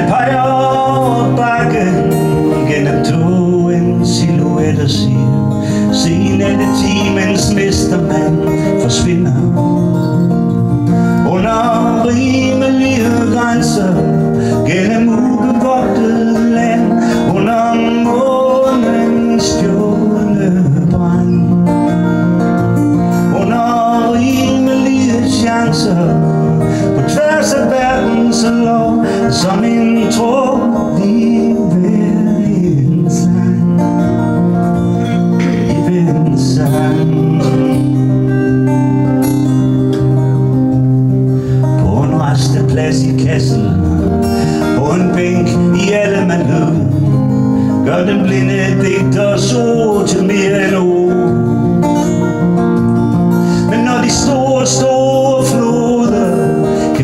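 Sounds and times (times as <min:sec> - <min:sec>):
acoustic guitar strummed: 0:00.0 - 0:57.0
man singing: 0:00.0 - 0:57.0.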